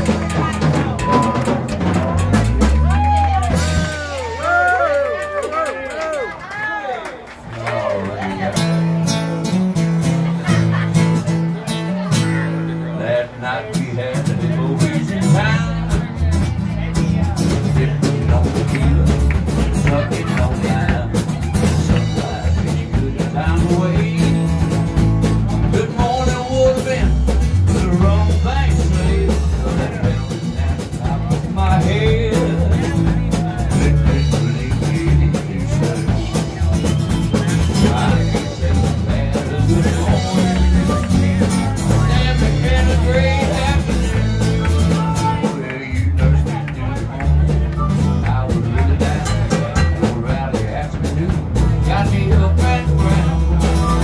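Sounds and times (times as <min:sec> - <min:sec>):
strummed acoustic guitar: 0:00.0 - 0:04.4, 0:08.1 - 0:54.0
man singing: 0:00.0 - 0:04.9, 0:07.8 - 0:54.0
drums: 0:00.0 - 0:54.0
electric guitar: 0:07.6 - 0:54.0.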